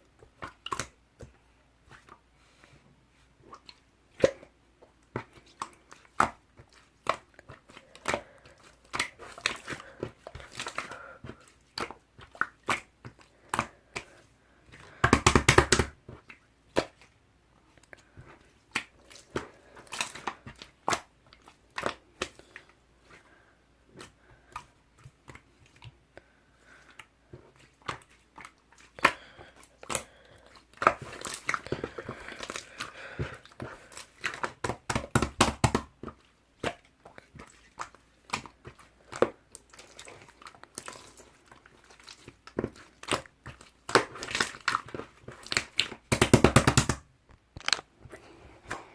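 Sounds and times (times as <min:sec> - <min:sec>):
slime squishing with pops: 0:00.0 - 0:02.3, 0:03.4 - 0:23.3, 0:23.9 - 0:48.9.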